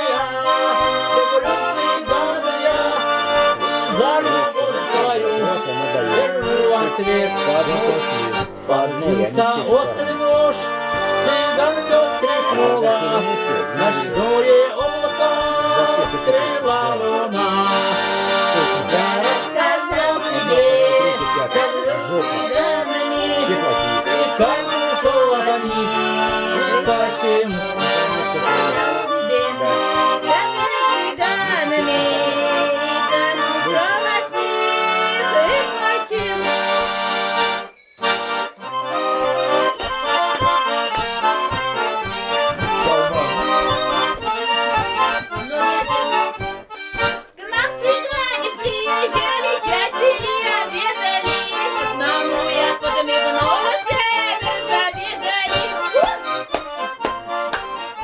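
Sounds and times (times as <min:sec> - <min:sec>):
button accordion melody: 0:00.0 - 0:58.0.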